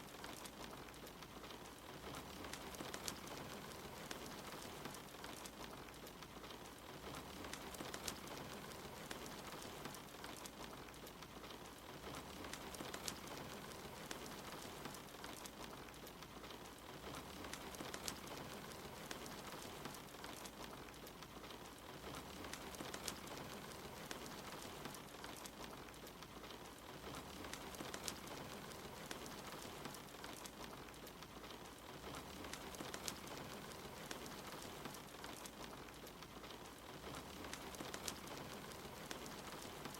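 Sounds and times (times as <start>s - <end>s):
soft rain: 0.0s - 39.9s
wood fire crackling and popping: 0.0s - 39.9s.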